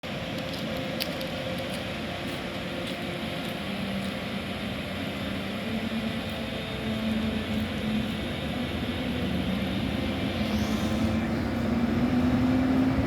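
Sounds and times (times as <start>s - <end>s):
electric locomotive running: 0.0s - 13.0s
traction equipment hum: 0.0s - 13.0s.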